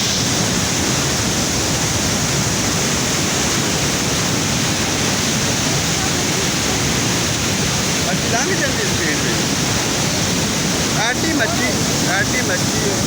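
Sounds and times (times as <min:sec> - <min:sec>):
water rushing through gates: 0:00.0 - 0:13.0.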